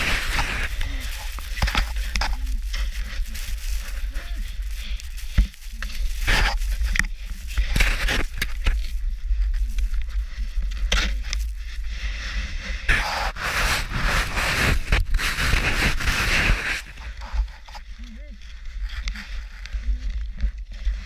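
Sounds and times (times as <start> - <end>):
avalanche snow rushing and scraping: 0.0 - 21.0
deep rumble: 0.0 - 21.0.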